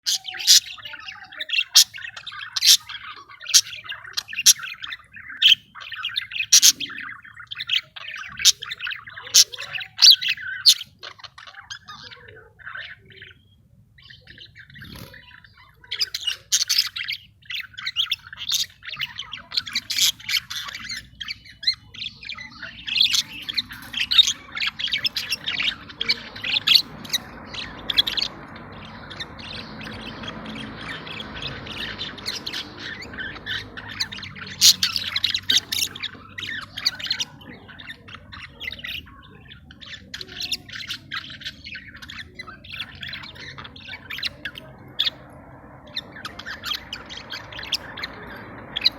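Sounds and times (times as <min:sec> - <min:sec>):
budgerigars chattering and chirping: 0:00.0 - 0:48.9.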